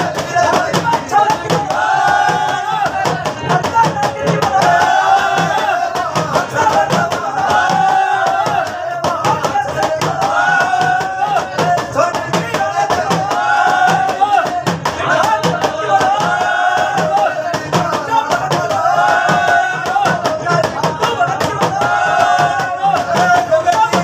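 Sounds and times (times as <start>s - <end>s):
devotional folk singing: 0.0s - 24.0s
rapid clicking percussion: 0.0s - 24.0s
steady drum beat: 0.0s - 24.0s.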